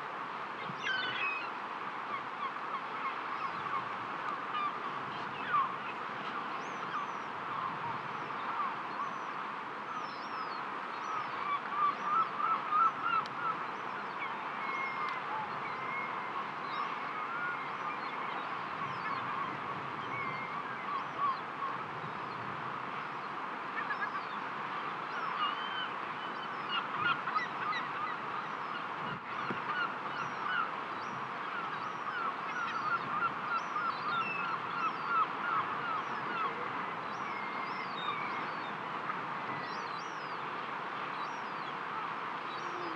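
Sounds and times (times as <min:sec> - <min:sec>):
flock of birds calling: 0:00.6 - 0:09.3, 0:10.0 - 0:23.1, 0:23.7 - 0:42.9.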